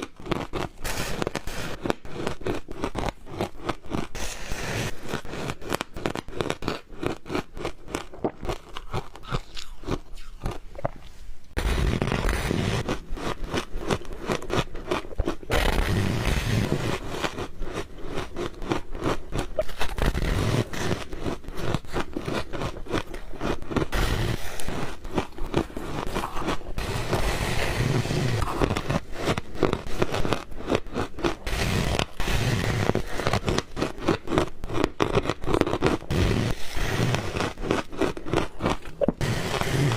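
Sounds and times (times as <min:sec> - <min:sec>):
ice crunching being chewed: 0:00.0 - 0:11.3, 0:12.4 - 0:39.9.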